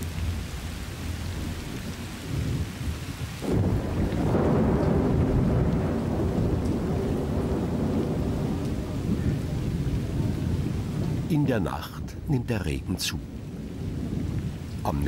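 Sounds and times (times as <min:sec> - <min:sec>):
heavy rain: 0:00.0 - 0:15.0
rain on dry ground: 0:00.0 - 0:15.0
thunder rumbling: 0:00.0 - 0:15.0.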